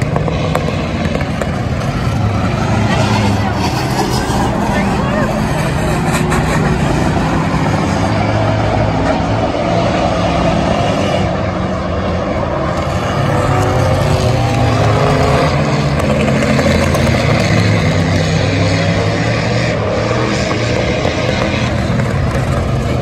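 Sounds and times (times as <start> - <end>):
race car engines: 0.0 - 23.0.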